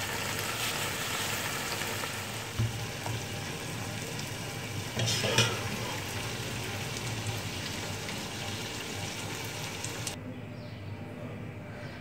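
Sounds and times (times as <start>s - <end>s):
food sizzling: 0.0s - 10.2s.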